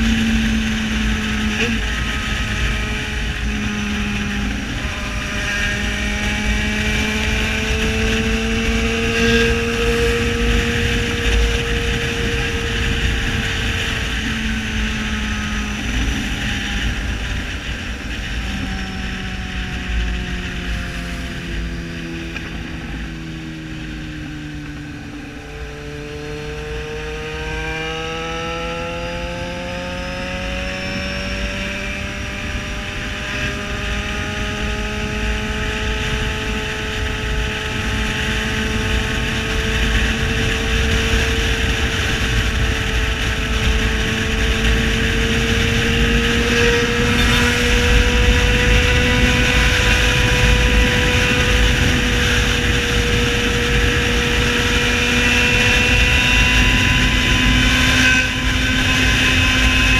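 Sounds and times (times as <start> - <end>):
motorcycle engine with loud exhaust: 0.0 - 59.9
wind rumble on microphone: 0.0 - 59.9.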